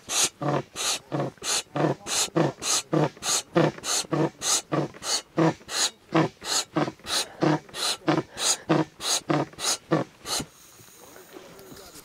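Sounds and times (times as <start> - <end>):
air pump puffs: 0.0 - 12.0.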